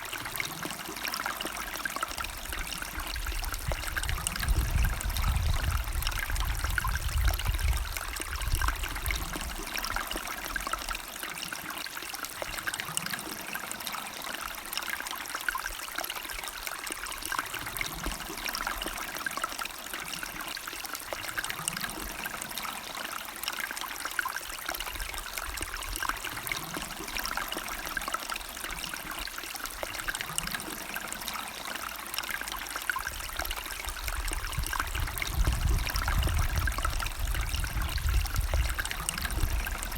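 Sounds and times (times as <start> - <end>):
stream trickling and burbling: 0.0 - 39.9.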